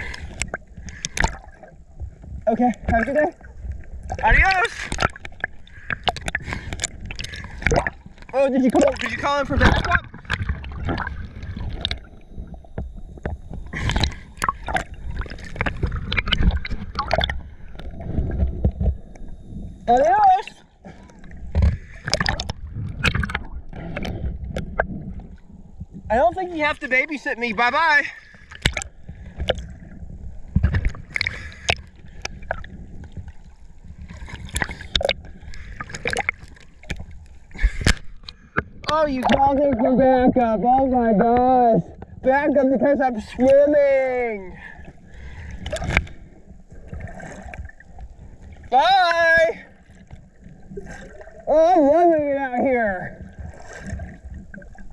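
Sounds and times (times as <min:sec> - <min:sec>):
sea water splashing: 0:00.0 - 0:54.9
surf rumble: 0:00.0 - 0:54.9
wind: 0:00.0 - 0:54.9.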